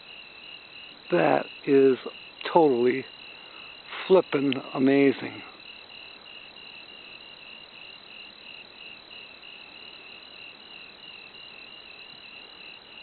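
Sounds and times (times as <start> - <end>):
constant high-pitched tone: 0.0 - 13.0
crickets chirping: 0.0 - 13.0.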